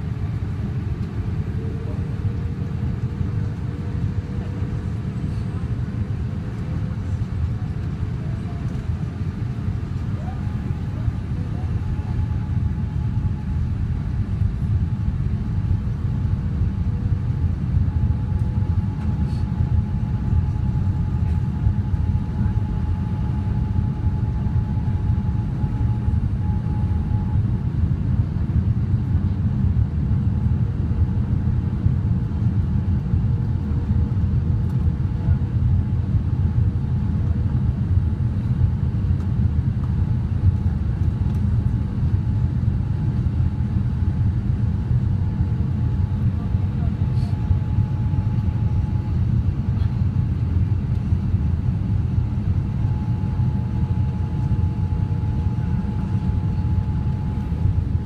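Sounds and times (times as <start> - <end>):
faint steady whine: 0.0 - 29.0, 29.7 - 58.0
aircraft cabin engine rumble: 0.0 - 58.0.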